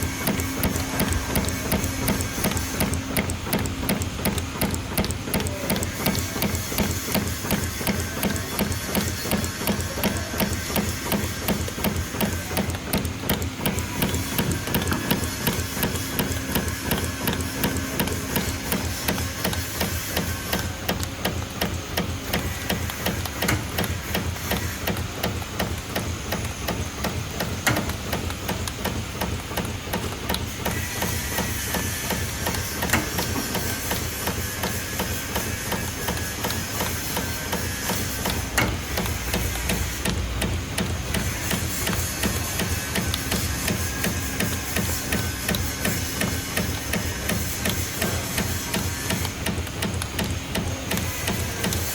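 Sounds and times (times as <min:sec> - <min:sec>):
machine tooling clattering clicks: 0:00.0 - 0:51.9.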